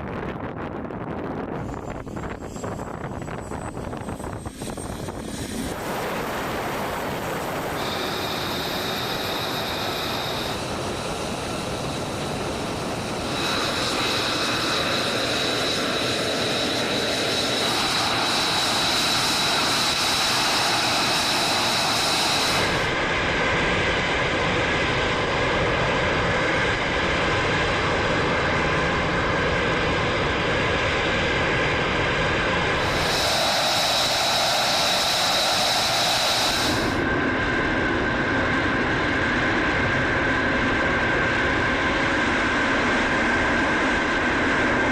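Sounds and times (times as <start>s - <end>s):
jet engine roar with whine: 0.0s - 44.9s.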